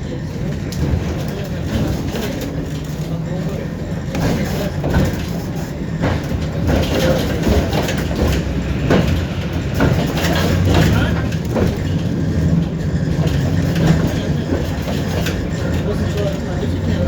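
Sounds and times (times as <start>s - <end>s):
tram motor hum: 0.0s - 17.0s
wheels knocking and rattling: 0.3s - 17.0s.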